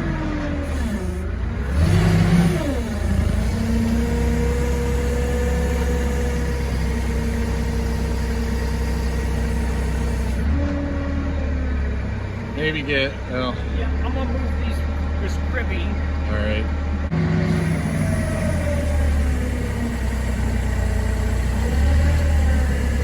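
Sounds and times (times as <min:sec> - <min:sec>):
forklift engine revving: 0:00.0 - 0:23.0.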